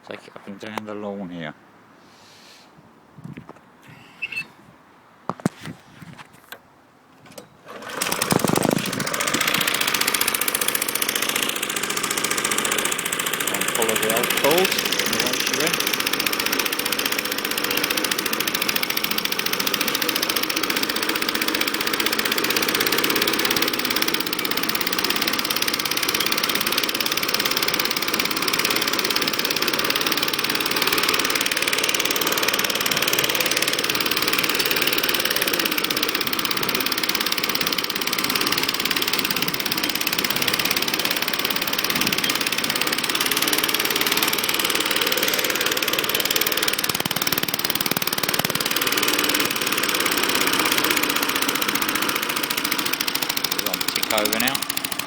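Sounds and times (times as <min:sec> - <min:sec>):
lawnmower engine running: 0:07.2 - 0:55.0.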